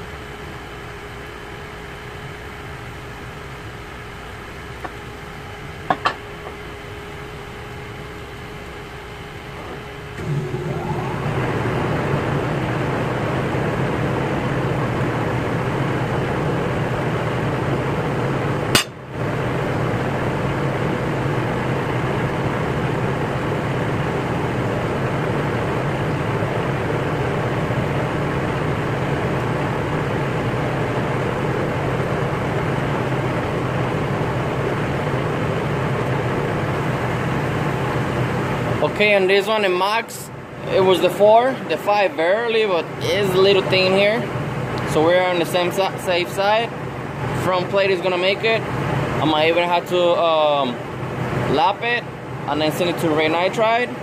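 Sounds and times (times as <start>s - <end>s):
machine humming: 0.0s - 54.0s.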